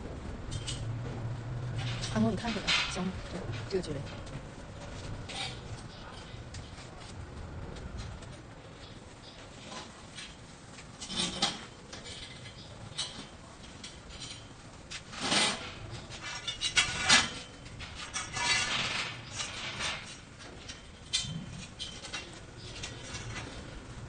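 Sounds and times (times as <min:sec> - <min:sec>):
metal knocks and scraping: 0:00.0 - 0:07.1, 0:09.6 - 0:24.0.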